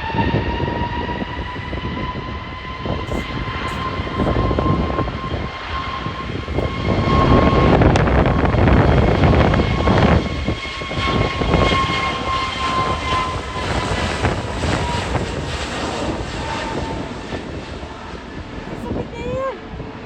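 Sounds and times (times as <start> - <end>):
jet engine rumble and whine: 0.0 - 20.0.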